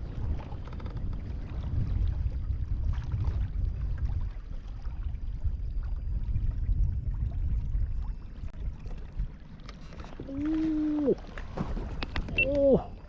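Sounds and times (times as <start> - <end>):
water sloshing against kayak hull: 0.0 - 13.0
wind rumble on microphone: 0.0 - 13.0.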